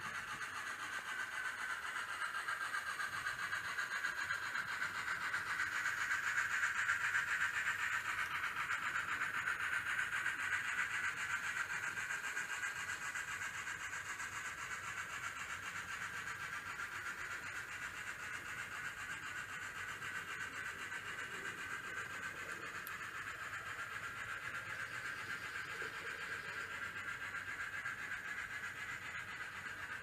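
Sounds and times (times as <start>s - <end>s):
model train running on rails: 0.0s - 30.0s.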